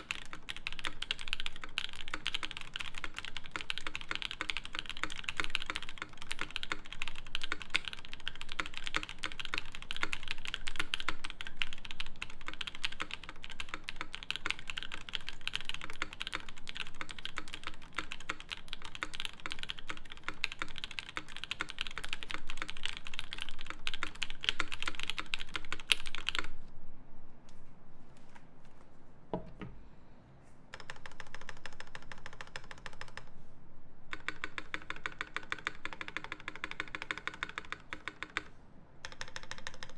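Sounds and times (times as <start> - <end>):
mechanical keyboard typing: 0.0 - 26.5, 30.7 - 33.3, 34.1 - 39.9.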